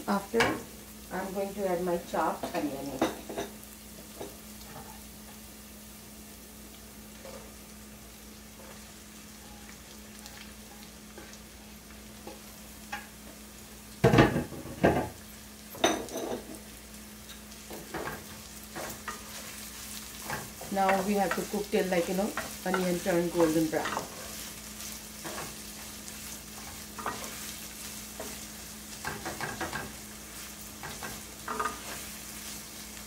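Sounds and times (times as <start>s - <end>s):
spices sizzling in oil: 0.0s - 33.0s.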